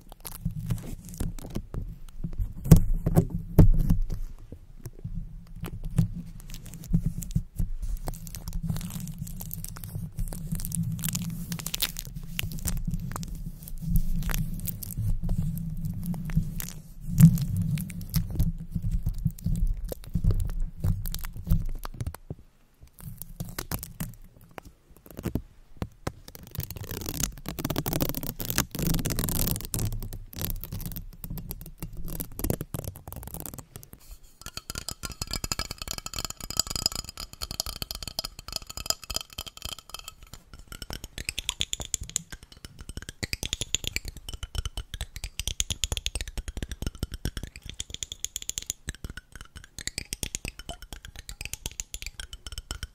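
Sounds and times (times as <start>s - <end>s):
tape peeling and crackling: 0.0s - 4.3s, 5.5s - 22.2s, 22.9s - 52.9s
fingertips tapping tape on microphone: 0.0s - 52.9s.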